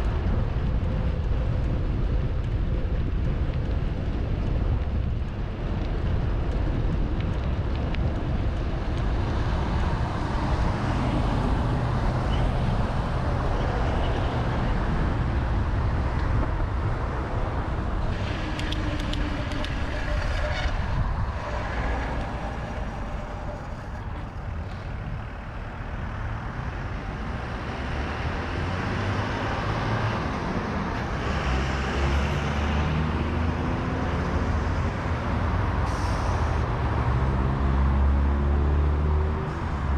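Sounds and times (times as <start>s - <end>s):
cars and trucks passing: 0.0s - 39.9s
wind rumble on microphone: 0.0s - 39.9s.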